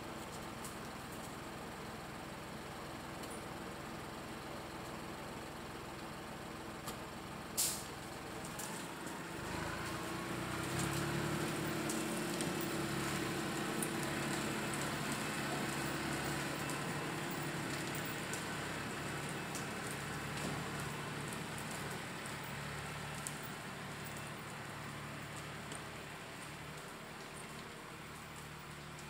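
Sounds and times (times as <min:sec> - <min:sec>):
tractor diesel engine: 0:00.0 - 0:29.0.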